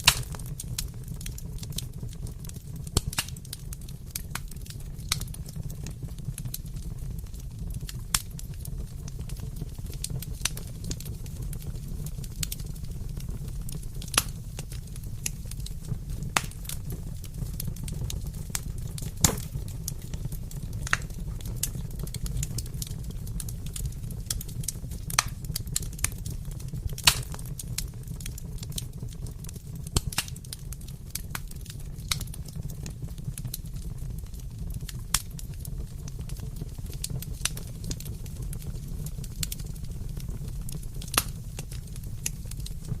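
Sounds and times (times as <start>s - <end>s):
fire flames rumbling: 0.0s - 43.0s
logs crackling and popping: 0.0s - 43.0s.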